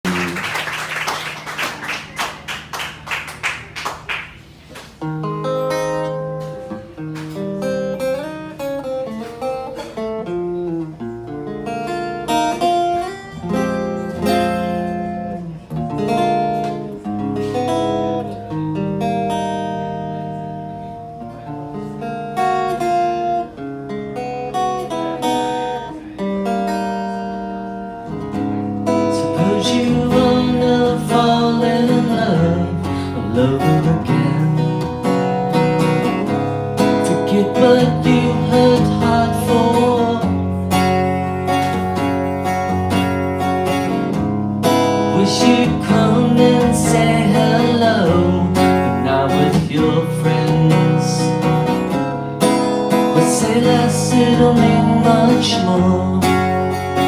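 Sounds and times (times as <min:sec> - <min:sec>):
acoustic guitar: 0:00.0 - 0:57.0.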